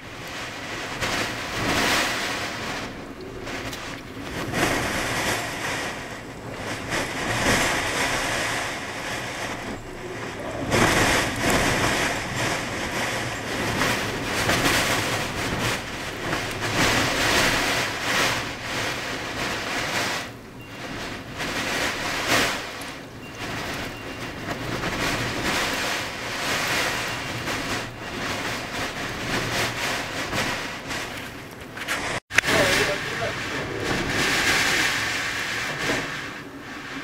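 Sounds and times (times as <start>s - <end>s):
wind gusts buffeting microphone: 0.0s - 37.0s.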